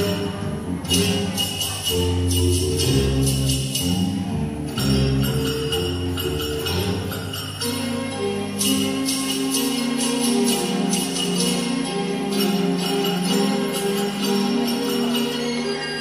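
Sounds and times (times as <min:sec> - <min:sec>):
high jingling shimmer: 0:00.0 - 0:16.0.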